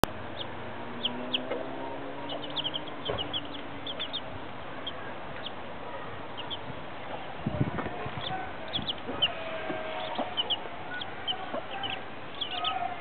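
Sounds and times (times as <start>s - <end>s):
hen clucking: 0.0s - 5.6s, 6.3s - 6.7s, 7.7s - 13.0s
chicks peeping: 0.0s - 13.0s.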